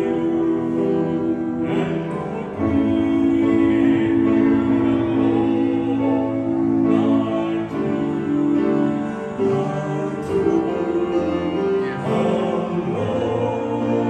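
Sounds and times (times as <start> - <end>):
male vocal quartet singing gospel: 0.0 - 14.0
piano accompaniment: 0.0 - 14.0.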